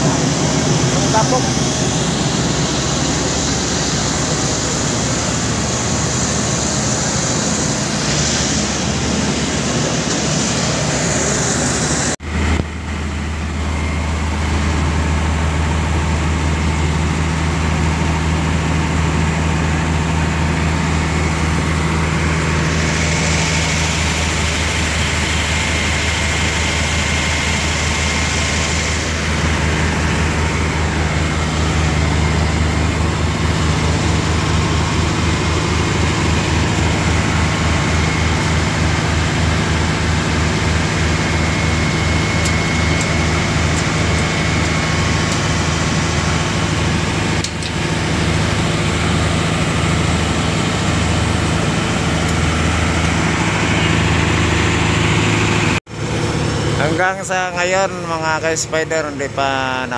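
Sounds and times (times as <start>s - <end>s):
fire truck engine idling: 0.0s - 59.9s.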